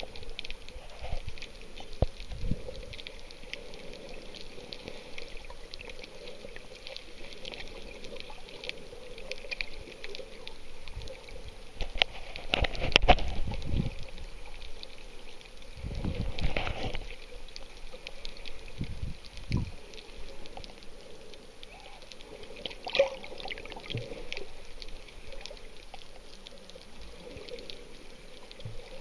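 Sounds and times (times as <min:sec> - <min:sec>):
muffled underwater noise: 0:00.0 - 0:29.0
small underwater clicks and crackles: 0:00.0 - 0:29.0
water bubbling and splashing: 0:00.0 - 0:29.0.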